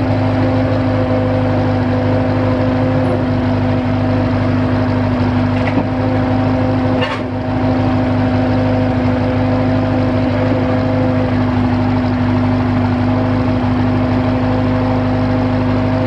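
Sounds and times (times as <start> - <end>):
drill rig engine humming: 0.0 - 16.0.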